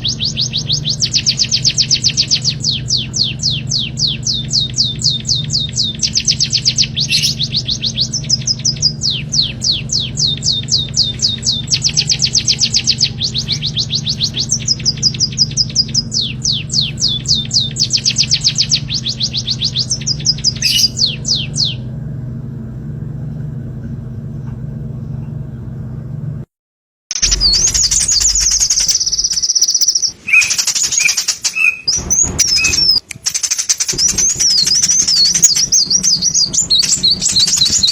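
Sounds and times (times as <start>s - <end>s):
small songbird singing: 0.0s - 21.9s, 27.2s - 37.9s
steady low hum: 0.0s - 26.5s, 27.2s - 37.9s.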